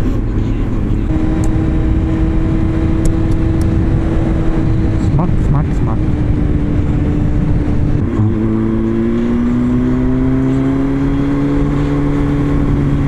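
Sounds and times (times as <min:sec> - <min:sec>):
motorcycle engine accelerating: 0:00.0 - 0:13.0
wind on microphone: 0:00.0 - 0:13.0.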